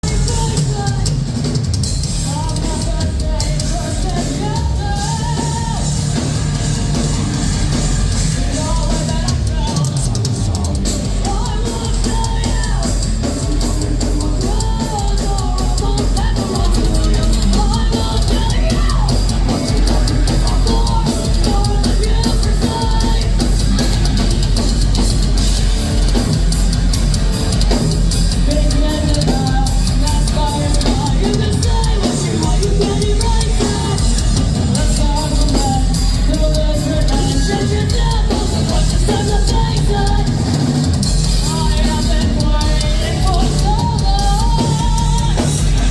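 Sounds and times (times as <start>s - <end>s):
person singing: 0.0s - 7.0s, 8.1s - 25.5s, 28.3s - 45.9s
heavy metal band playing live: 0.0s - 45.9s
pounding drum kit: 0.0s - 45.9s.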